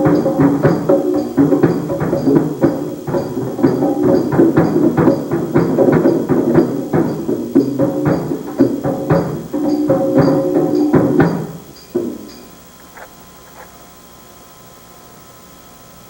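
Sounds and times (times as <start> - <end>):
pitched tones: 0.0 - 13.6
percussion music: 0.0 - 13.7.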